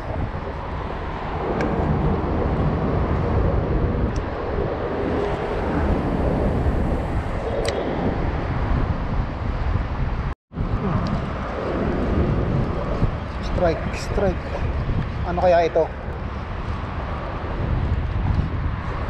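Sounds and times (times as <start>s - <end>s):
road traffic rumble overhead: 0.0s - 19.0s.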